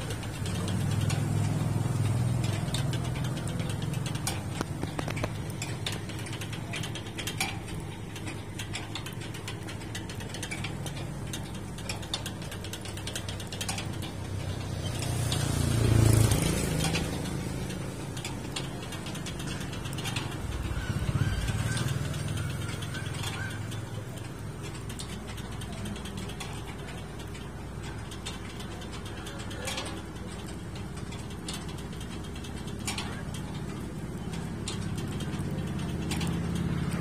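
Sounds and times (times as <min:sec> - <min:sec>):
mechanical clicks and ticks: 0:00.0 - 0:37.0
rotisserie drive humming: 0:00.0 - 0:37.0.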